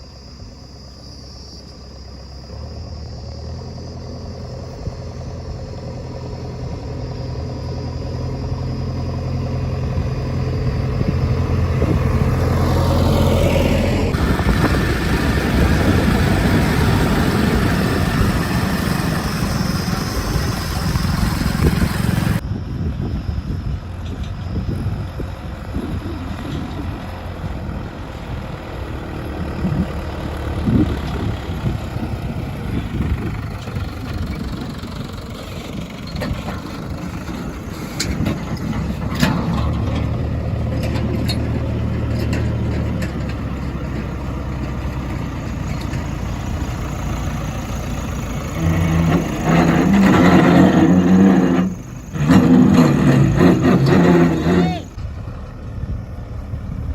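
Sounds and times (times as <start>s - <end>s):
diesel engines running: 0.0s - 56.9s.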